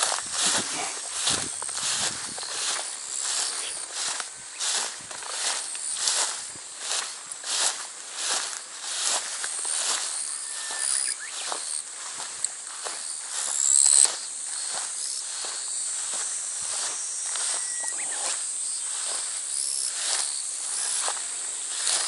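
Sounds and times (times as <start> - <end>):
footsteps walking: 0.0 - 22.0
insects buzzing: 0.0 - 22.0.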